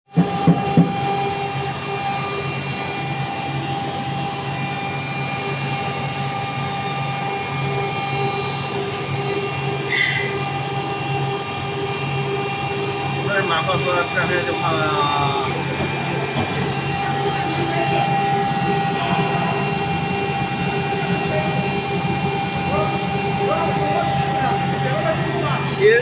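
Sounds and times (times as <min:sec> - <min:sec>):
machinery humming and whining: 0:00.1 - 0:26.0.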